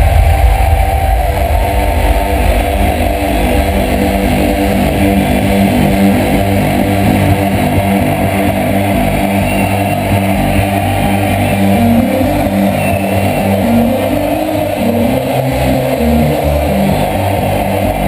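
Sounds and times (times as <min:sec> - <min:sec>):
electronic dance music: 0:00.0 - 0:18.0.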